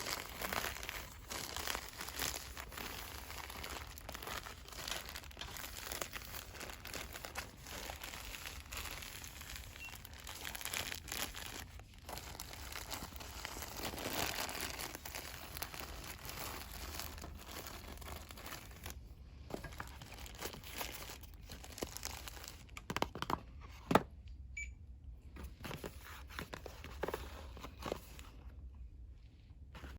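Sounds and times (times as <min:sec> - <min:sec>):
packaging rustling and crinkling: 0:00.0 - 0:23.4, 0:25.4 - 0:28.6.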